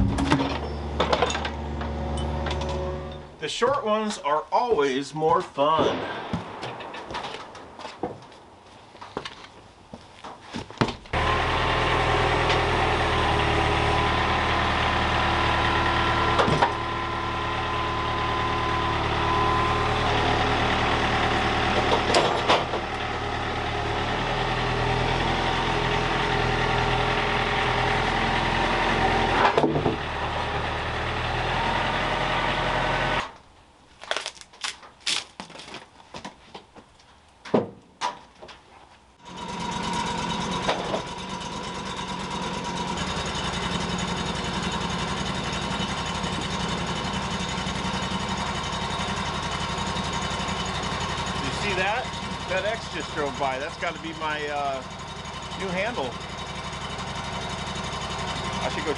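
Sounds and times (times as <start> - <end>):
sawmill engine running: 0.0 - 8.2, 11.1 - 33.3, 39.2 - 58.9.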